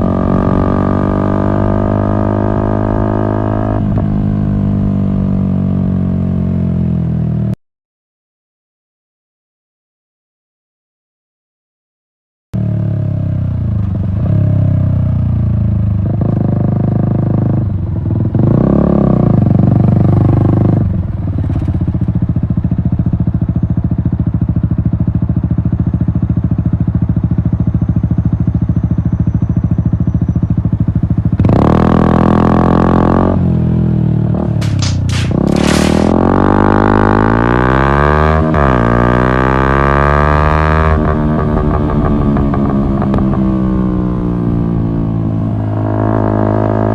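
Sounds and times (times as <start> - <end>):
motorcycle engine revving: 0.0 - 7.6, 12.6 - 46.9.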